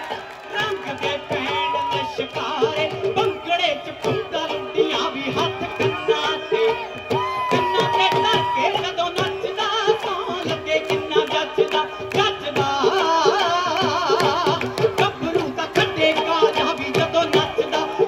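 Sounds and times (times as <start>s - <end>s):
drum beating steady rhythm: 0.0s - 18.0s.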